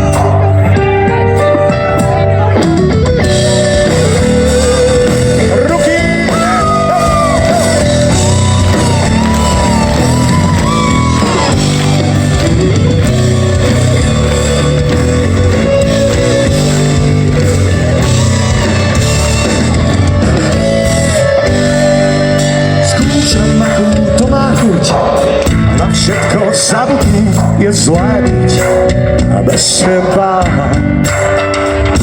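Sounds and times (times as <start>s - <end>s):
electric guitar lead with bent notes: 0.0s - 32.0s
live rock band playing: 0.0s - 32.0s.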